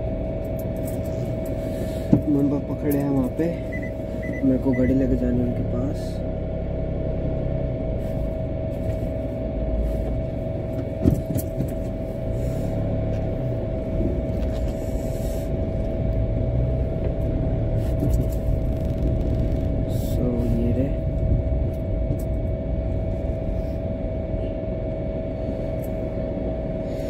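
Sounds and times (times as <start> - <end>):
car engine and road rumble: 0.0 - 27.0
mid-pitched hum: 0.0 - 27.0.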